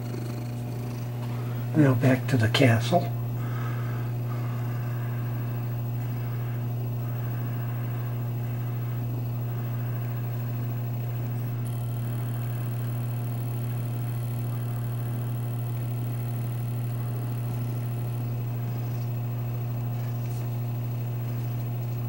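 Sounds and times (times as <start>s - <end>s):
computer hum with fan noise: 0.0s - 22.0s
faint high whine: 0.0s - 22.0s.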